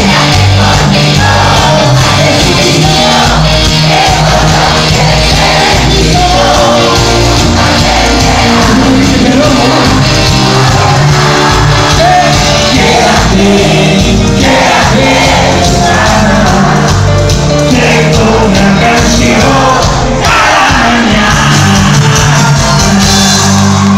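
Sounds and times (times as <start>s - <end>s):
live band playing: 0.0s - 23.9s
person singing: 0.0s - 23.9s.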